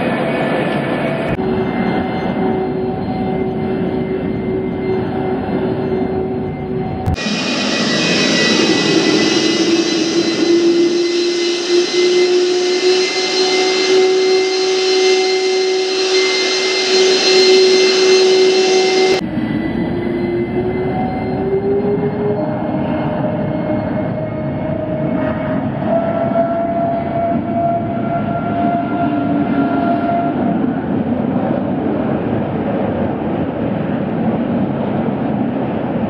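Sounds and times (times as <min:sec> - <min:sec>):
jet engine howl and roar: 0:00.0 - 0:36.0.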